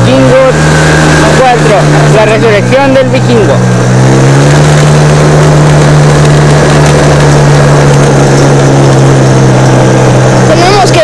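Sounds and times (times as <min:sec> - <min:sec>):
road and wind noise: 0:00.0 - 0:11.0
vehicle engine hum: 0:00.0 - 0:11.0.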